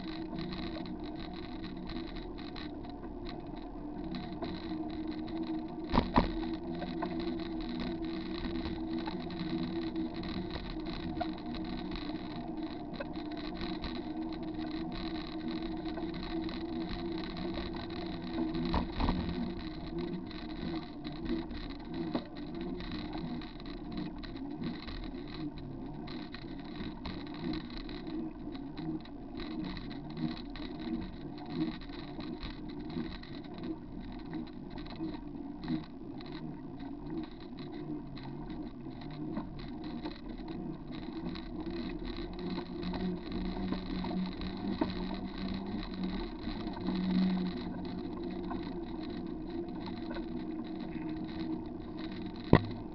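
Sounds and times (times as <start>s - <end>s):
bicycle tyres rolling: 0.0s - 52.9s.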